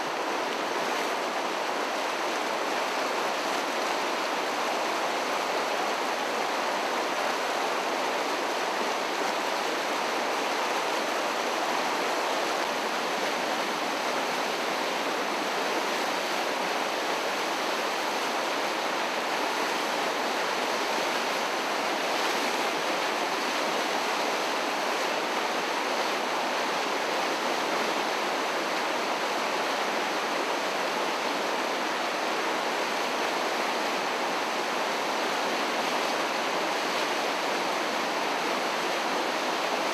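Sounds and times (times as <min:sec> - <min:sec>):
fast water rushing: 0:00.0 - 0:39.9.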